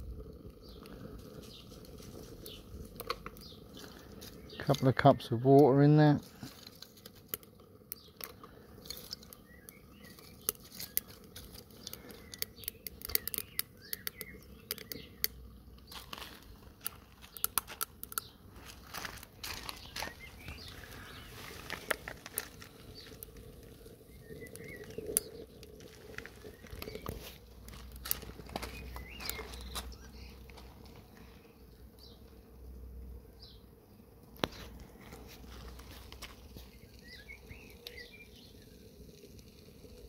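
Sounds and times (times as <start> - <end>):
twigs crackling in fire: 0.0 - 33.1, 34.3 - 40.0.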